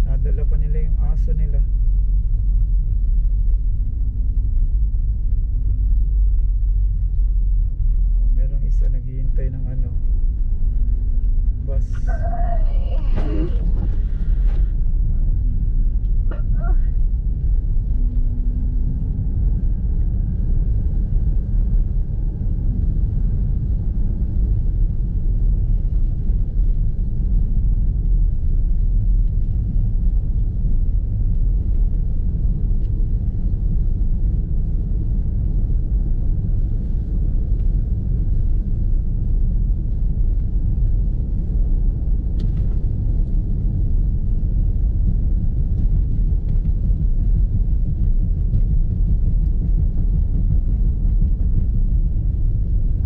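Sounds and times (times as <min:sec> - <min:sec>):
car driving on snowy road: 0:00.0 - 0:53.0.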